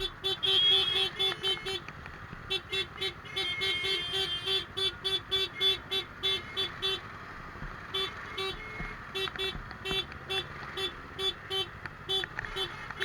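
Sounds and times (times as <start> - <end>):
long held car horn: 0.0 - 1.8, 2.5 - 7.1, 7.9 - 13.0
vehicle horns honking: 0.0 - 7.2, 7.8 - 13.0
traffic hum: 0.0 - 13.0.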